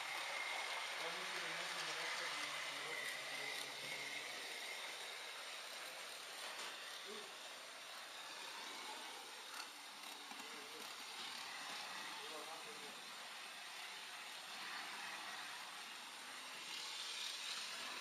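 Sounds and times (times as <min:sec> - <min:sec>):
model train running hiss: 0:00.0 - 0:18.0.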